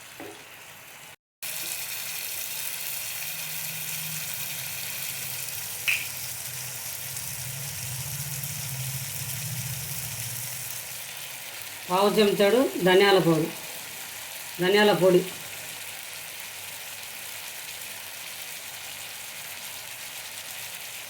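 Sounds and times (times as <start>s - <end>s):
chicken sizzling in a pan: 0.0s - 21.0s.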